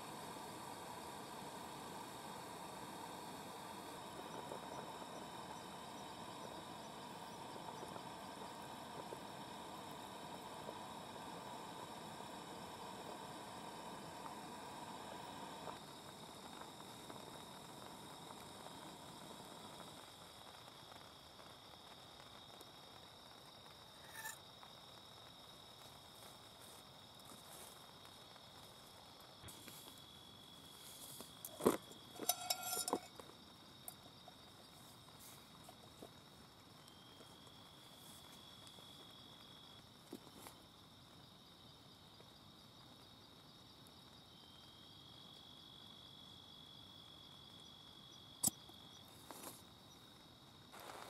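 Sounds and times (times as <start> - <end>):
night insects droning: 0.0 - 51.0.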